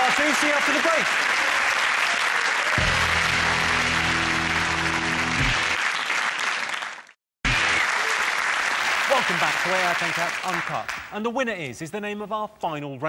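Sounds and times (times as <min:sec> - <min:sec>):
studio audience applauding: 0:00.0 - 0:11.2.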